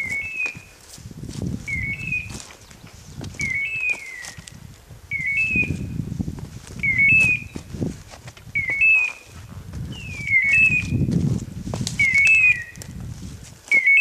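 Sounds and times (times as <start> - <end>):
brush rustling: 0.0 - 5.0, 5.7 - 14.0
footsteps crunching: 0.0 - 14.0.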